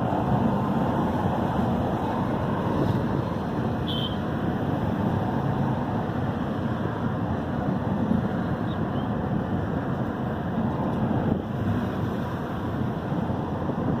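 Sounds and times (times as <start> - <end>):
car driving at highway speed: 0.0 - 14.0.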